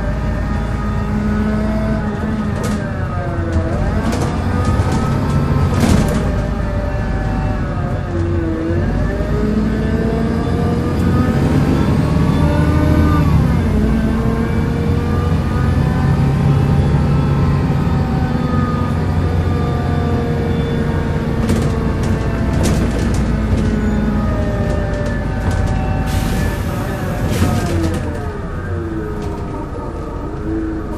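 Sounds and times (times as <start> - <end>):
bus diesel engine droning: 0.0 - 30.9
groaning tones rising and falling: 0.0 - 30.9.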